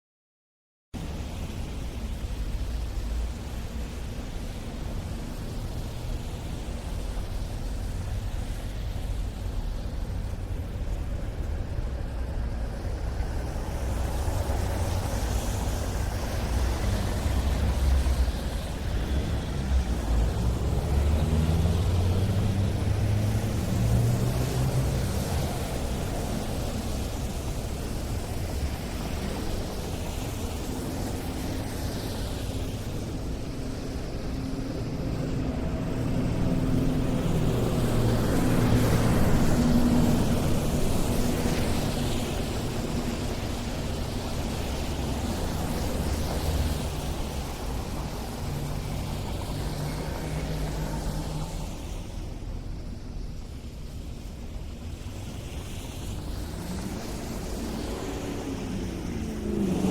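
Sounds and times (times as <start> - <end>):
low traffic rumble: 1.0 - 59.9
cars passing: 3.6 - 59.9.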